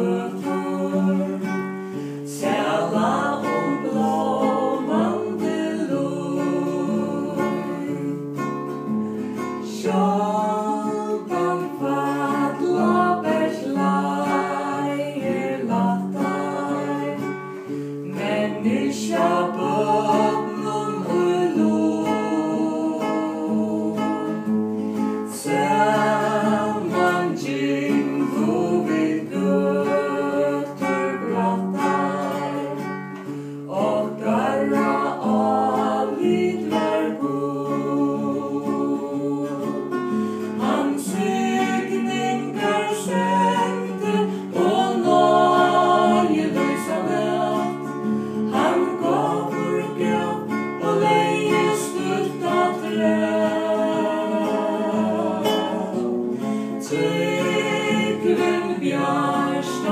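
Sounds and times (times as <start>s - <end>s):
man singing: 0.0s - 1.5s, 2.3s - 8.1s, 9.7s - 17.2s, 18.1s - 24.3s, 25.4s - 32.8s, 33.7s - 39.8s, 40.6s - 47.8s, 48.5s - 56.2s, 56.8s - 59.9s
woman singing: 0.0s - 1.6s, 2.3s - 8.2s, 9.6s - 17.4s, 18.0s - 24.5s, 25.3s - 33.0s, 33.7s - 59.9s
strummed classical guitar: 0.0s - 59.9s.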